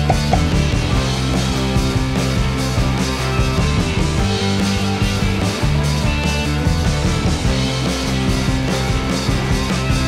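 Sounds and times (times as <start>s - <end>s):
rock music: 0.0s - 10.0s.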